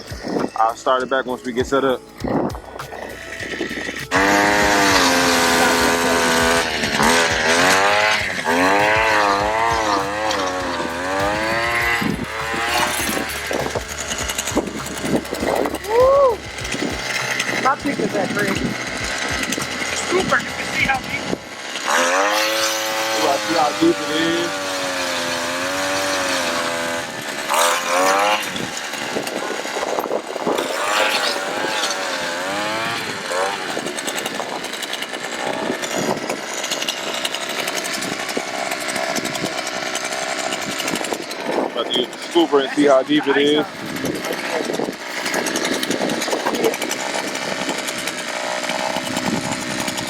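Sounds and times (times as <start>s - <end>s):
ice auger engine revving: 0.0s - 50.0s.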